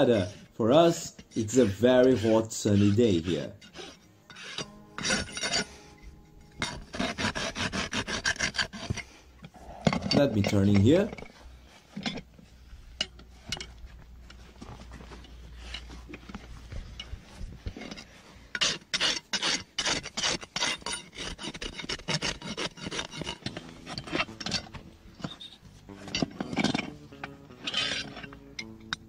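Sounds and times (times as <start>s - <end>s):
hoof rasp filing: 0.0s - 29.0s.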